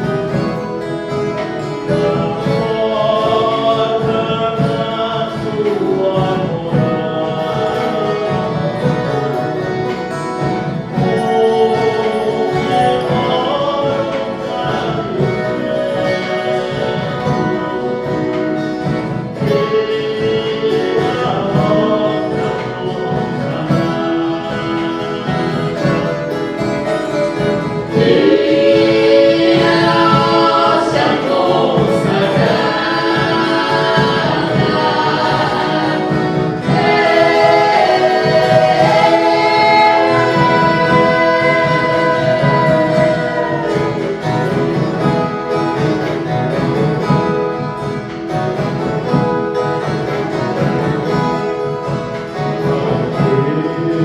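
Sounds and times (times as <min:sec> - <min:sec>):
group singing: 0:00.0 - 0:54.0
guitar ensemble playing: 0:00.0 - 0:54.0.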